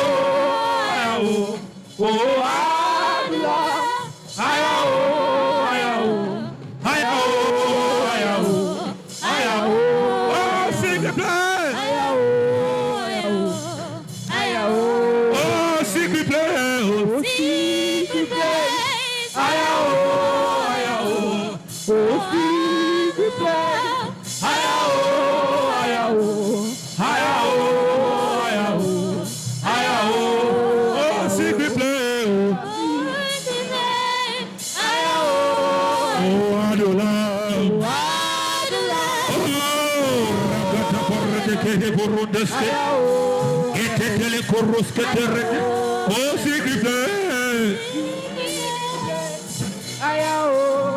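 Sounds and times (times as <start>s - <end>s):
person singing melismatic gospel: 0.0s - 50.9s.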